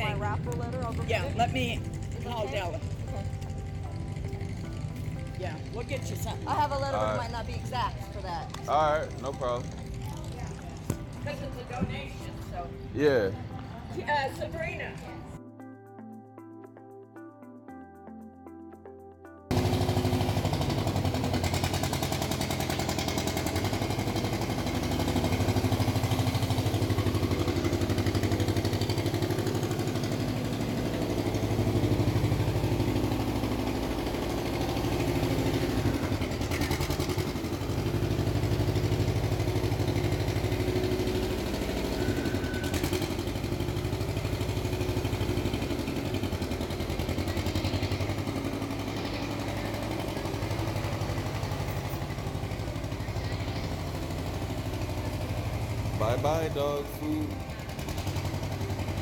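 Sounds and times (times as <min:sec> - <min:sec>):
diesel truck engine drone: 0:00.0 - 0:15.4, 0:19.4 - 0:59.0.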